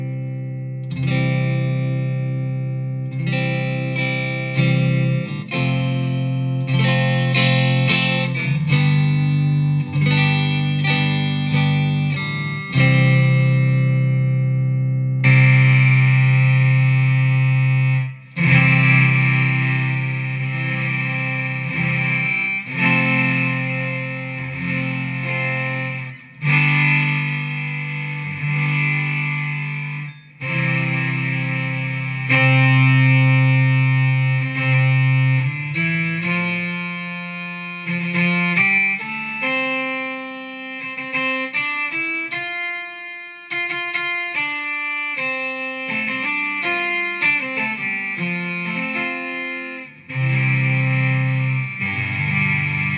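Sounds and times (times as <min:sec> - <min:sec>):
synth electric guitar: 0:00.0 - 0:52.9.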